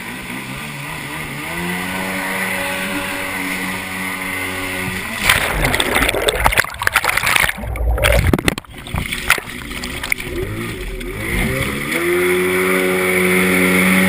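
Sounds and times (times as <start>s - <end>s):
jet ski engine revving: 0.0s - 6.6s, 9.0s - 14.0s
water splashing and rushing: 0.0s - 14.0s.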